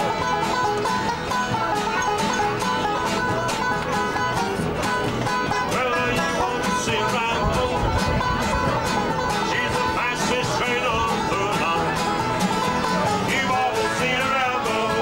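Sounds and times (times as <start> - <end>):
acoustic guitar picking: 0.0 - 15.0
banjo picking: 0.0 - 15.0
folk band playing: 0.0 - 15.0.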